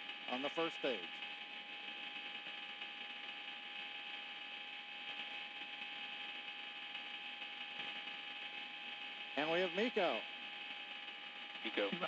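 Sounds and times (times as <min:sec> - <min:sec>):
faint constant tone: 0:00.0 - 0:12.0
radio channel hiss: 0:00.0 - 0:12.0.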